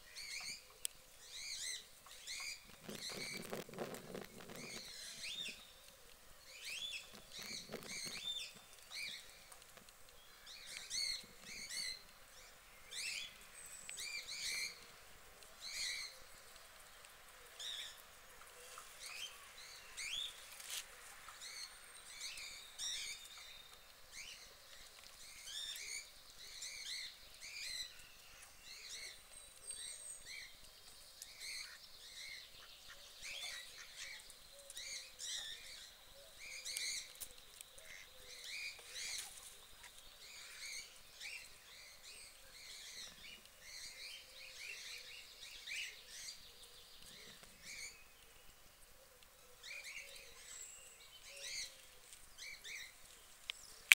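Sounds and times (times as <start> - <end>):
faint outdoor background noise: 0.0 - 53.9
small birds chirping: 0.0 - 53.9.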